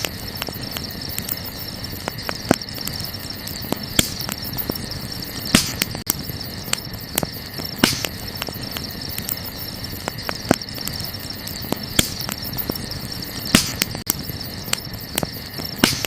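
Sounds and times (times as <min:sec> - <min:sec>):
night insects chirring: 0:00.0 - 0:16.0
wood fire crackling: 0:00.0 - 0:16.0.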